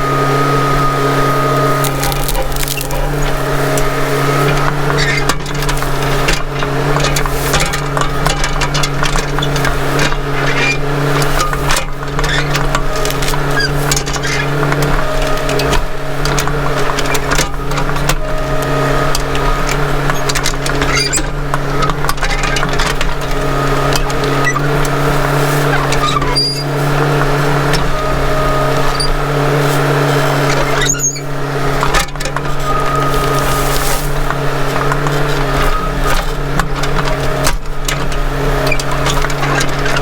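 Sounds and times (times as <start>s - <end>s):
excavator engine running: 0.0s - 40.0s
brush and wood cracking: 0.3s - 40.0s.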